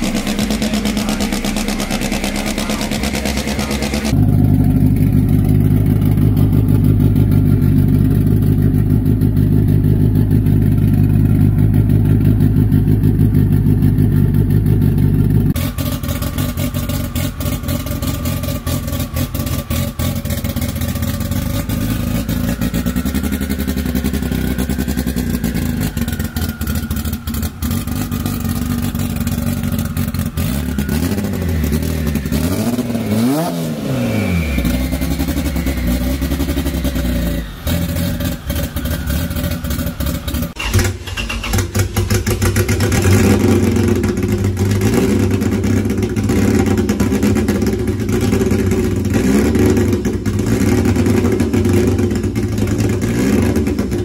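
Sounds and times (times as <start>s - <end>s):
car engine idling: 0.0s - 54.0s
engine revving: 0.0s - 54.0s.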